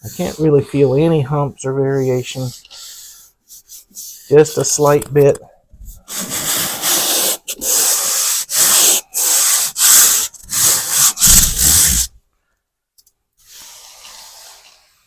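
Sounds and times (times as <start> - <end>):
hand sanding drywall strokes: 0.0 - 5.0, 5.8 - 12.2, 13.4 - 15.0.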